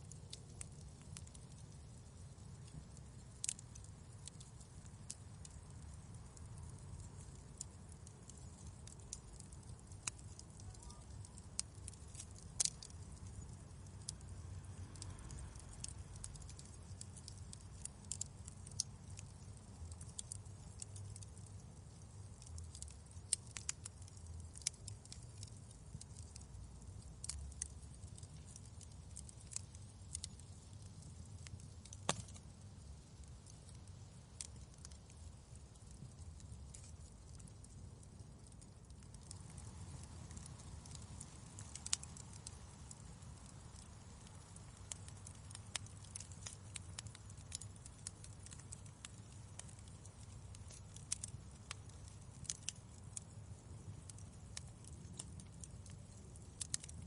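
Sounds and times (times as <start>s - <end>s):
low steady rumble: 0.0s - 56.5s
fireplace fire crackling: 0.0s - 57.0s.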